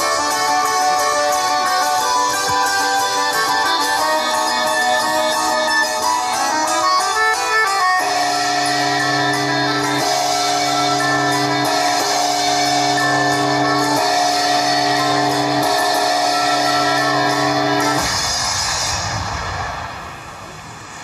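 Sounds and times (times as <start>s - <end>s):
music with long held chords: 0.0s - 21.0s.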